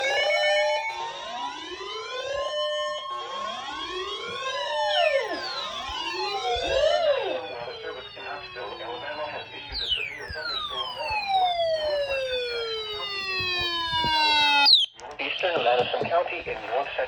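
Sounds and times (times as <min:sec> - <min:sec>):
steady alarm tones: 0:00.0 - 0:15.1
electronic sirens wailing: 0:00.0 - 0:15.2.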